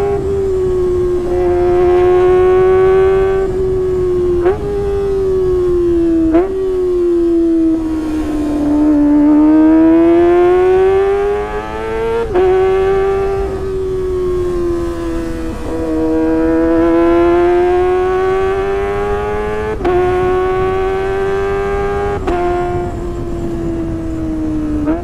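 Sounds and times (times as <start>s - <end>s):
motorcycle engine wailing at high revs: 0.0s - 25.0s.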